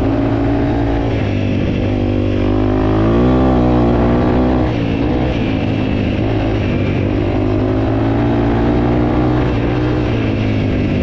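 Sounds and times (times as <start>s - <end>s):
motorcycle engine under load: 0.0s - 11.0s.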